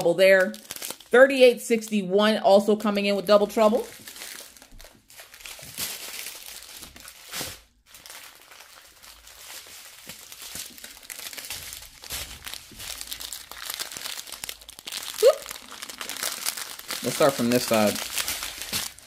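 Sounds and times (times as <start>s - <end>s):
plastic bags crinkling: 0.0s - 1.2s, 3.2s - 19.0s.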